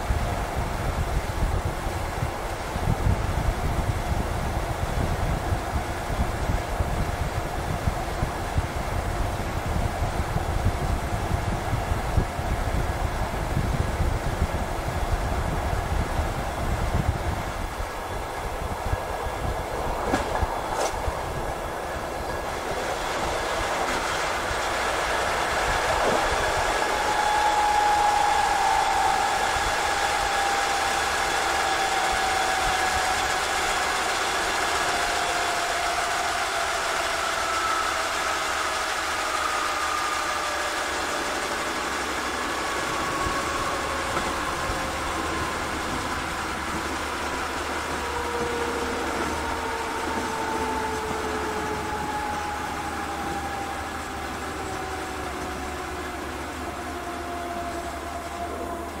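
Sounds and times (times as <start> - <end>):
train rumbling on rails: 0.0 - 59.0
train whine falling in pitch: 0.0 - 59.0.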